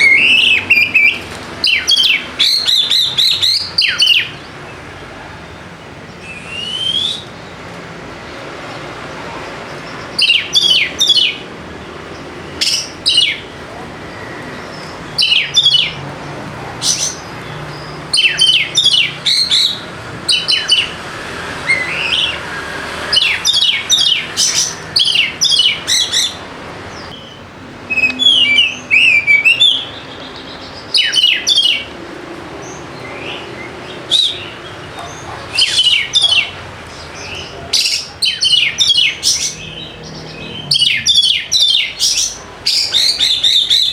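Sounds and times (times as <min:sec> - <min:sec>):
bird singing sharp chirps: 0:00.0 - 0:04.5, 0:06.1 - 0:07.5, 0:09.7 - 0:11.4, 0:12.5 - 0:13.5, 0:14.2 - 0:16.0, 0:16.8 - 0:21.0, 0:21.6 - 0:31.9, 0:32.6 - 0:43.9.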